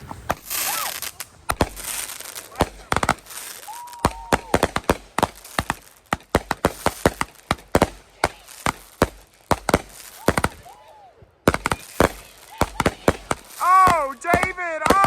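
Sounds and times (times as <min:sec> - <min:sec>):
fireworks popping: 0:00.0 - 0:15.0.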